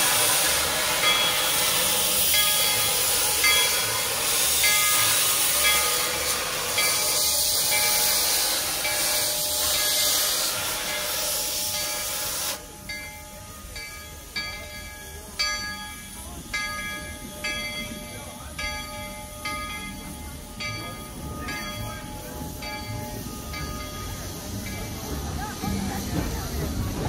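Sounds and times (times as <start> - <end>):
locomotive bell ringing: 0.0 - 27.0
steam hissing loudly: 0.0 - 27.0.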